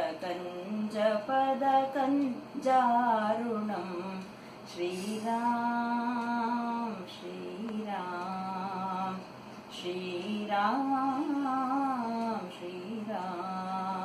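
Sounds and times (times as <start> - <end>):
woman singing devotional song: 0.0 - 14.0.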